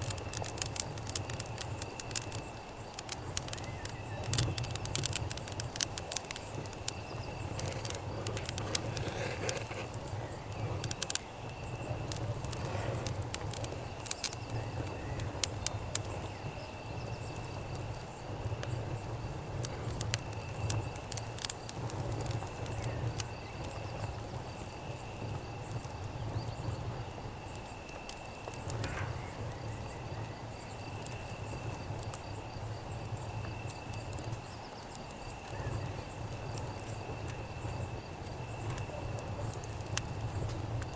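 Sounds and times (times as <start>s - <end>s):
campfire crackling and popping: 0.0s - 27.4s, 35.5s - 40.9s
crickets trilling: 0.0s - 40.9s.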